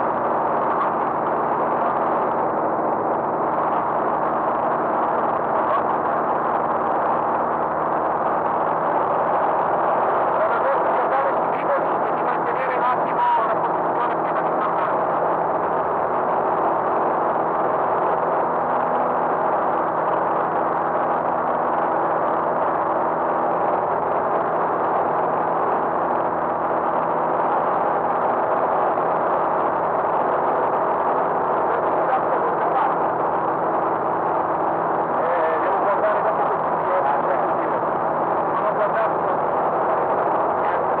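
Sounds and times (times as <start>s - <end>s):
light aircraft engine drone: 0.0s - 41.0s.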